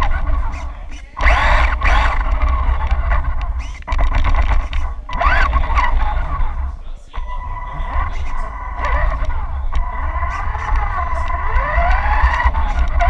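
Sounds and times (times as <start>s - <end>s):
low rumble of vibration: 0.0s - 13.0s
rc car motor whining: 0.0s - 13.0s.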